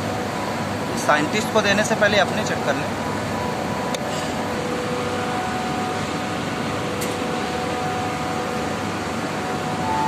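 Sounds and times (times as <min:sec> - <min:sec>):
chiller fans droning: 0:00.0 - 0:10.0
faint hum tones: 0:00.0 - 0:10.0.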